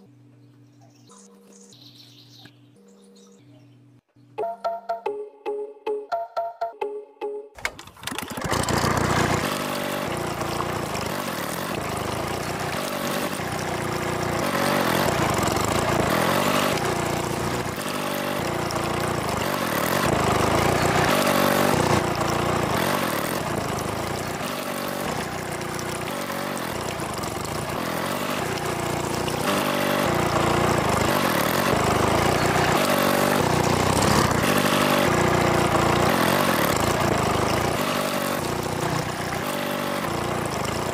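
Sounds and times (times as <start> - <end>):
small diesel water pump running: 7.6 - 40.9
water gushing from pipe: 7.6 - 40.9.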